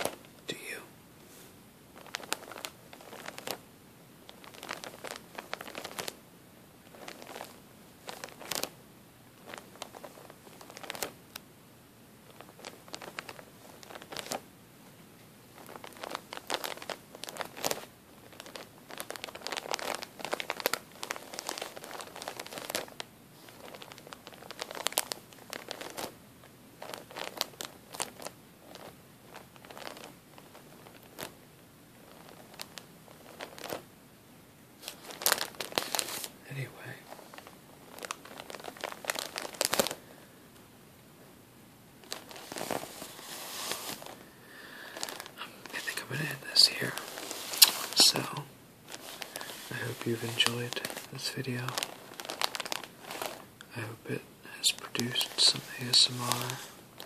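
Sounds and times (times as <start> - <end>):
plastic bag crinkling: 1.9 - 3.6, 4.3 - 6.2, 6.9 - 8.7, 9.4 - 11.2, 12.3 - 14.4, 15.6 - 26.2, 26.8 - 31.4, 32.0 - 33.8, 34.8 - 40.2, 42.0 - 57.0.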